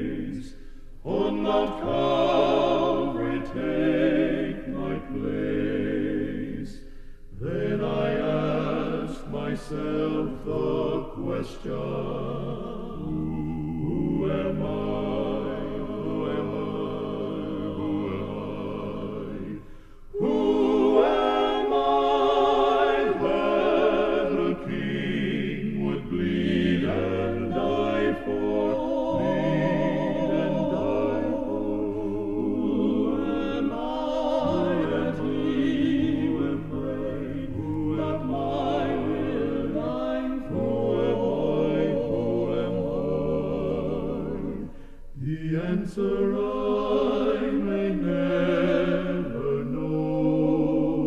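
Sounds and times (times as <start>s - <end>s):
male vocal quartet singing harmony: 0.0s - 51.0s.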